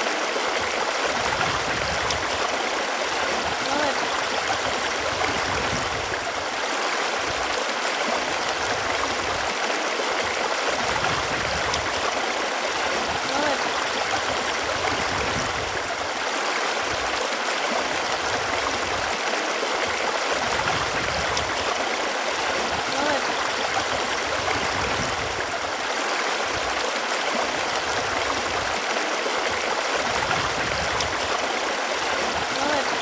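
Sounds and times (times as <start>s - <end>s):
running water gurgling: 0.0s - 33.0s.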